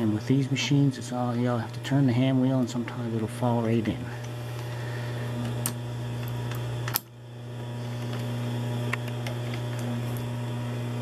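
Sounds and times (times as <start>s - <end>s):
low electric hum: 0.0s - 11.0s.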